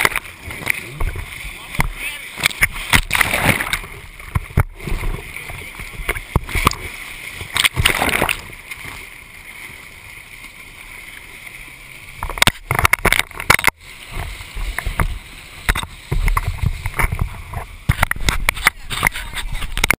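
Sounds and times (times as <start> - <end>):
water sloshing and splashing: 0.0 - 19.9.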